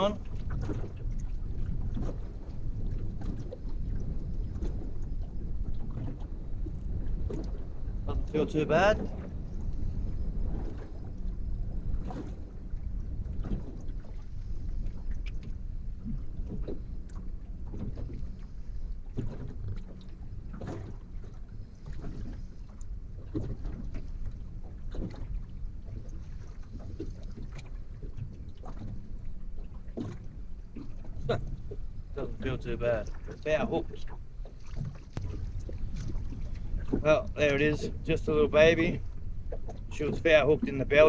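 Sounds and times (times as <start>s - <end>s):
water splashes and knocks: 0.0s - 41.0s
wind rumble on microphone: 0.0s - 41.0s.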